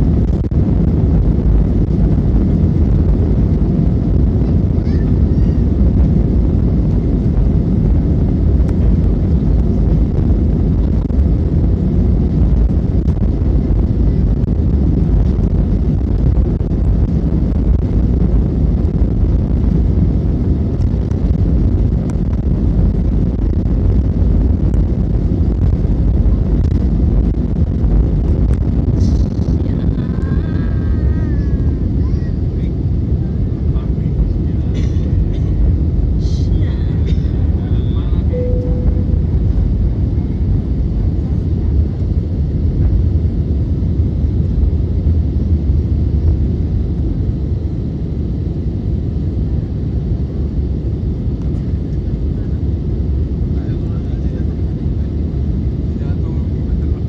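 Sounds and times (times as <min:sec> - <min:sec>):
airplane engines roaring: 0:00.0 - 0:57.0.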